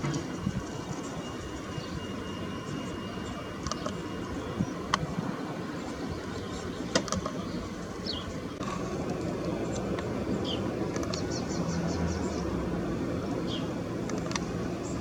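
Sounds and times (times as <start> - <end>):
small birds chirping: 0.0 - 12.6, 13.3 - 15.0
distant traffic rumble: 0.0 - 15.0.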